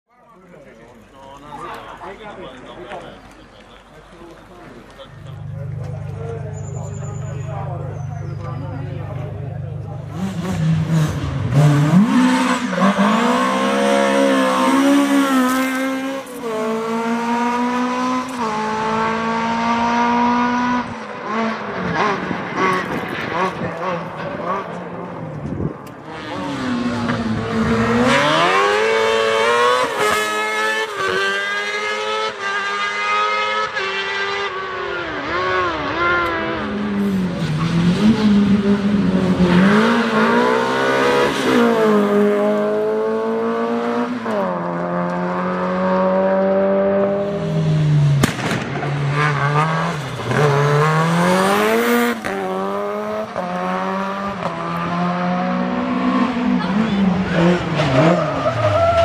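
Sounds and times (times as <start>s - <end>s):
rally car engines revving hard: 2.9s - 59.0s.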